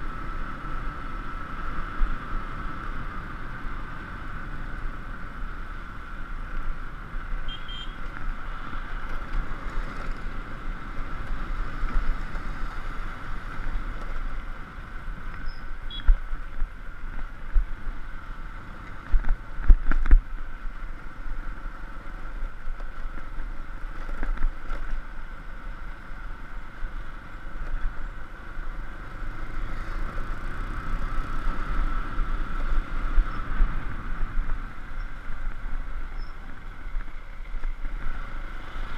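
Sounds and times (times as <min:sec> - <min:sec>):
rumbling road noise: 0:00.0 - 0:38.9.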